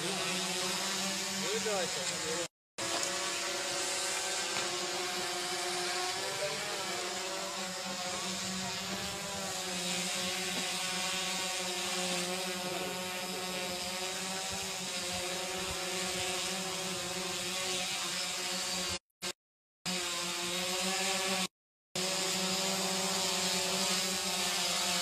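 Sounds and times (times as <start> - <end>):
drone propellers buzzing: 0.0 - 19.0, 19.9 - 25.0.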